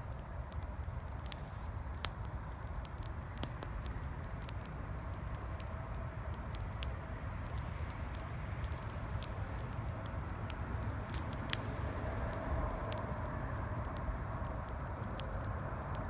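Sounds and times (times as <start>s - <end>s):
campfire crackling and popping: 0.0s - 16.0s
highway traffic rumble: 0.0s - 16.0s.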